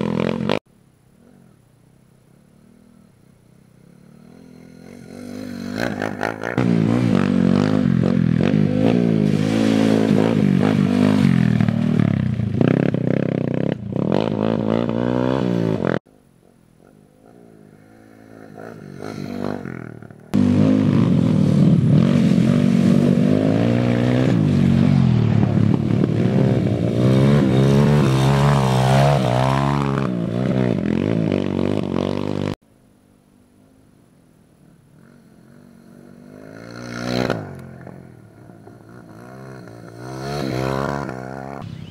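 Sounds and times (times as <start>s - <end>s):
dirt bike engines revving: 2.5s - 16.0s, 16.8s - 32.6s, 34.9s - 41.9s.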